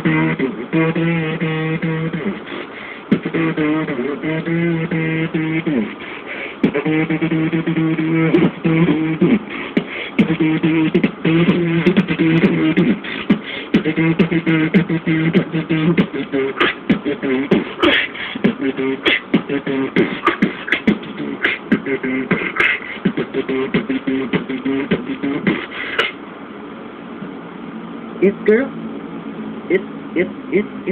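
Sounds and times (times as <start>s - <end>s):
hummed held notes: 0.0s - 26.2s
beatboxing: 0.0s - 26.3s, 29.7s - 30.9s.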